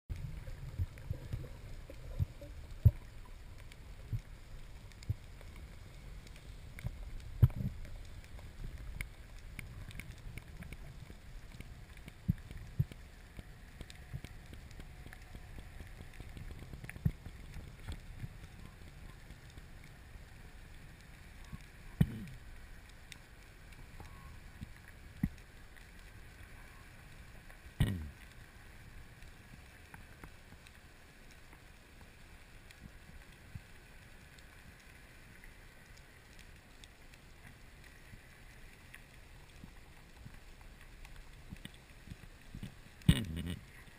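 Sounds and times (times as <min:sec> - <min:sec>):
muffled underwater rumble: 0:00.1 - 0:43.9.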